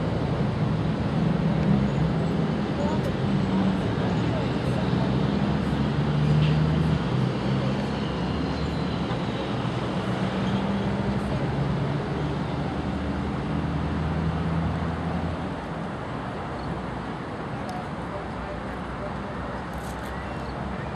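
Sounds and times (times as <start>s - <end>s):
passing vehicle engines humming: 0.0s - 20.9s
road traffic noise: 0.0s - 20.9s.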